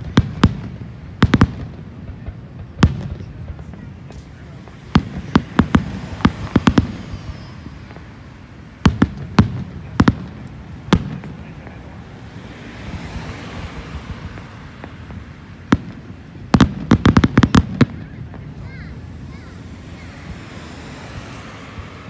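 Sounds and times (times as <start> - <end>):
fireworks bursting with bangs: 0.0 - 22.0.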